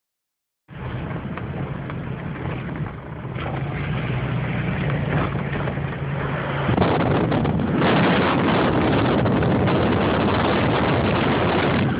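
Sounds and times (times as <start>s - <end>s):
car engine hum: 0.7s - 11.9s
road noise: 0.7s - 11.9s.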